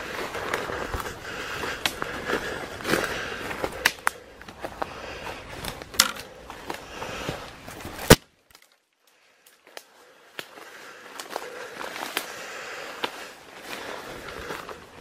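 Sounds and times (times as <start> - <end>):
leaves and branches rustling: 0.0 - 15.0
twigs snapping: 0.4 - 4.9, 5.5 - 15.0.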